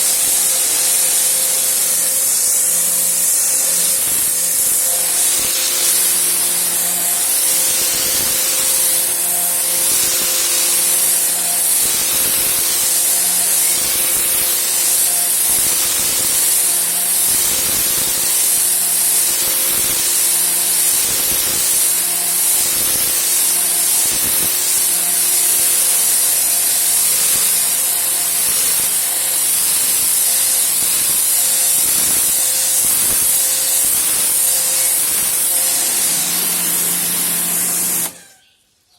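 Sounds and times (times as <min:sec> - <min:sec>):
water jet hissing: 0:00.0 - 0:38.3
pressure washer motor humming: 0:00.0 - 0:38.4.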